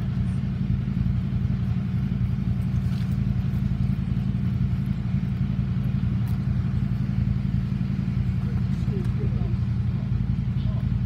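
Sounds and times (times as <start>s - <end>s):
electric train humming: 0.0s - 11.0s.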